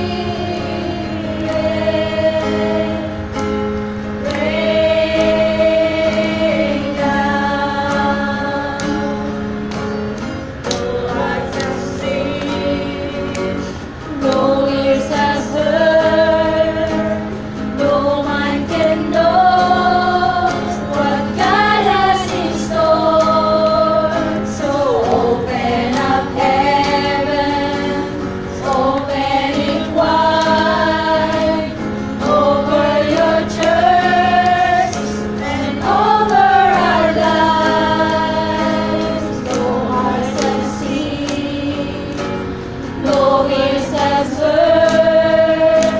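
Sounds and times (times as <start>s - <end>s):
women singing a worship song: 0.0s - 9.7s, 10.4s - 45.9s
acoustic guitar: 0.0s - 45.9s.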